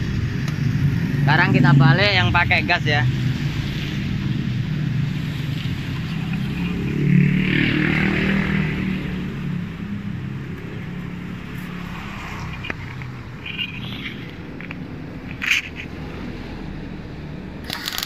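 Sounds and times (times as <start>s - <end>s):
passing vehicle engine rumble: 0.0s - 17.6s.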